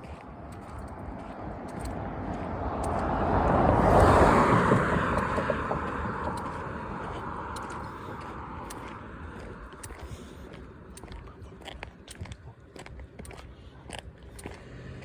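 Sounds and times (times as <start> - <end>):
car passing by: 0.1 - 11.7, 13.4 - 15.0.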